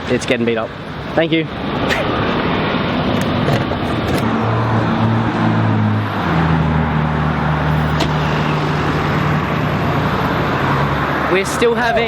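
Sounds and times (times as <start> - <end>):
tyre and road noise: 0.0 - 12.0
car engine hum: 0.8 - 12.0.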